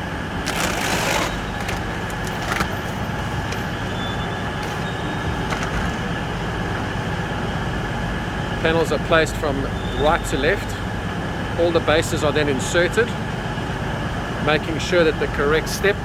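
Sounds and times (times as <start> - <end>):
low machine hum: 0.0 - 16.0
rushing ambient noise: 0.0 - 16.0.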